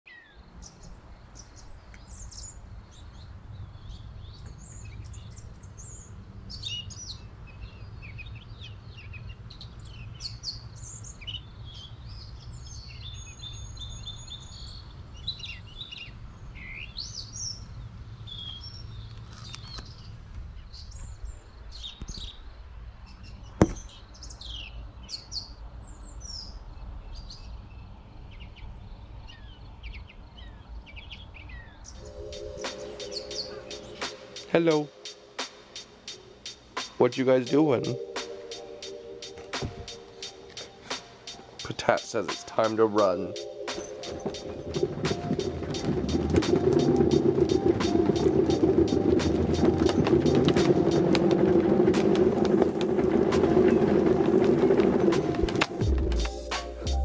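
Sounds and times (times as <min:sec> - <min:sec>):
birds singing and chirping: 0:00.1 - 0:34.9, 0:37.0 - 0:38.6, 0:39.2 - 0:55.9.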